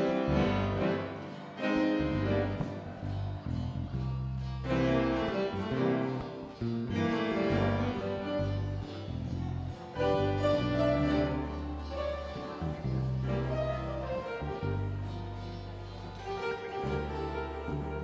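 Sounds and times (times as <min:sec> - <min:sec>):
acoustic guitar: 0:00.0 - 0:18.0
electric bass low notes: 0:00.0 - 0:18.0
piano chords: 0:00.0 - 0:18.0.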